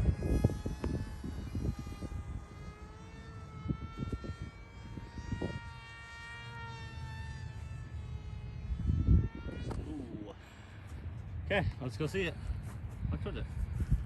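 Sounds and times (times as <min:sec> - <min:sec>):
model airplane motor whine: 0:00.0 - 0:12.6
wind buffeting microphone: 0:00.0 - 0:14.0.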